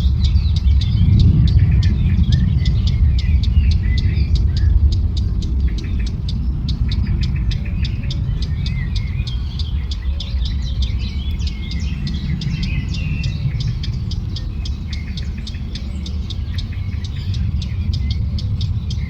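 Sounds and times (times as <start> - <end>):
low rumble: 0.0 - 19.0
songbirds chirping: 0.0 - 19.0.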